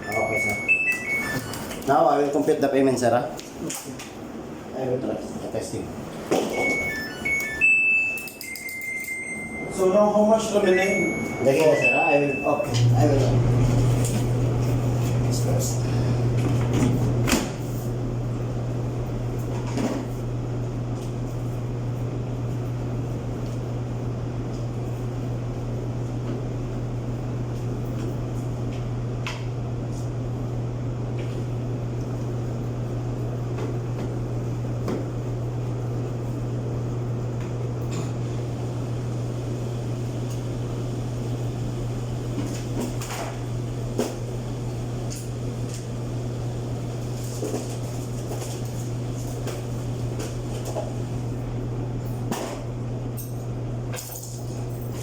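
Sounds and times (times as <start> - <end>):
clothes dryer motor hum: 0.0 - 55.0.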